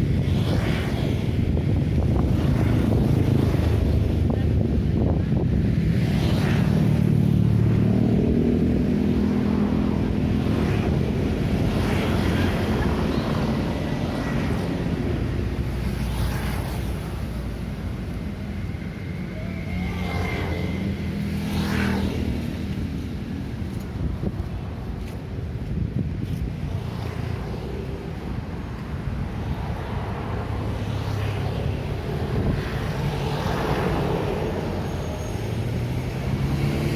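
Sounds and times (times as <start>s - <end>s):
vehicles passing: 0.0s - 36.9s.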